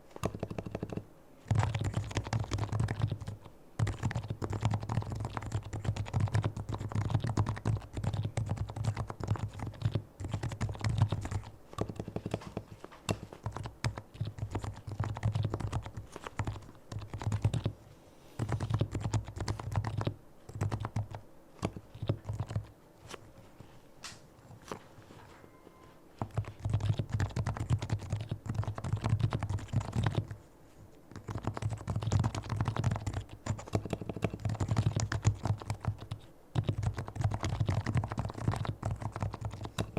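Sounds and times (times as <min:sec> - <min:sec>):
keyboard typing: 0:00.2 - 0:17.8, 0:18.4 - 0:22.7, 0:25.4 - 0:30.4, 0:31.1 - 0:39.9.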